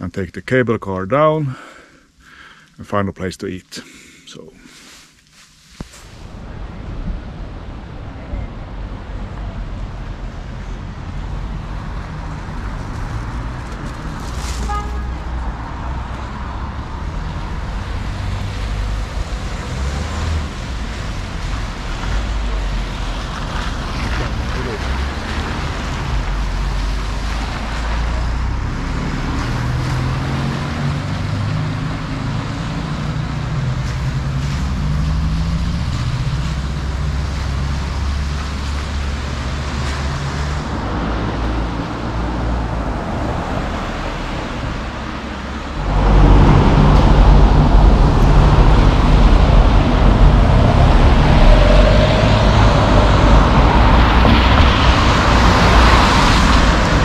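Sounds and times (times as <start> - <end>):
cars passing on wet road: 4.6 - 57.0.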